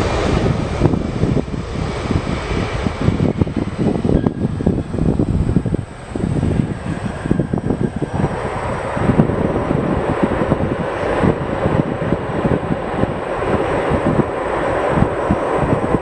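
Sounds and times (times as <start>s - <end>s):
jet engines running: 0.0s - 16.0s
wind buffeting microphone: 0.0s - 16.0s.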